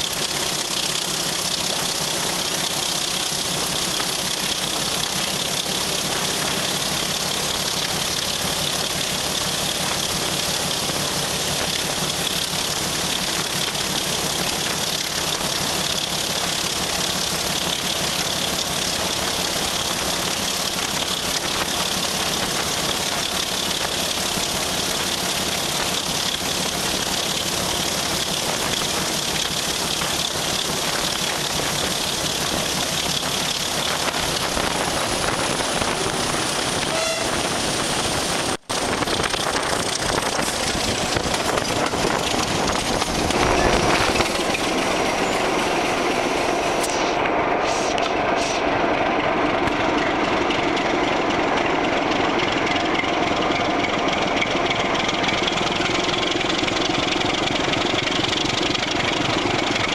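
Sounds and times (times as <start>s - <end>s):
train wheel and running noise: 0.0s - 59.9s.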